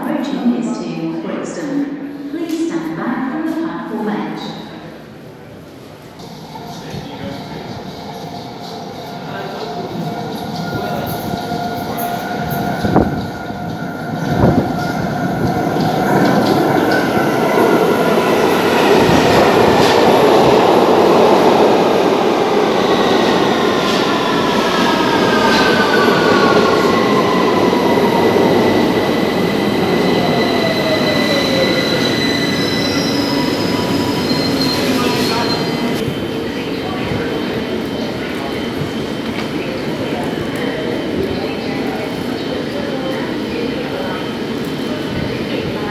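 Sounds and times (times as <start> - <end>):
underground train running in: 0.0 - 45.9.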